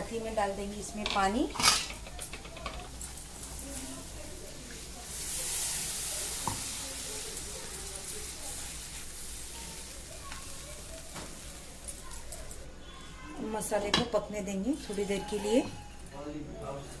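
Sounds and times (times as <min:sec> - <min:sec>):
water sizzling in hot oil: 0:00.0 - 0:16.1.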